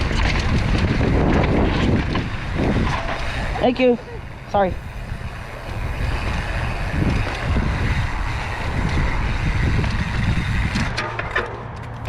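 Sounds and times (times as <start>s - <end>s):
wind on microphone: 0.0s - 11.3s
rolling tyre noise: 0.0s - 12.0s.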